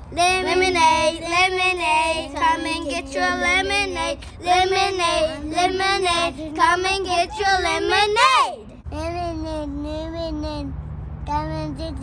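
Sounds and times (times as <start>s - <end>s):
child singing: 0.1s - 10.7s, 11.3s - 12.0s.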